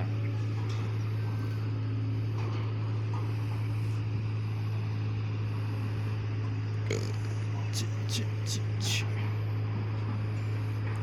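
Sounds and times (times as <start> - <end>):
ship engine idling: 0.0 - 10.8.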